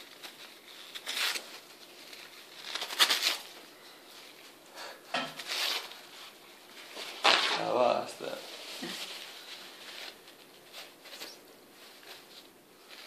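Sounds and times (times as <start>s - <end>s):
paper rustling and tearing: 0.0s - 3.6s, 5.4s - 13.0s.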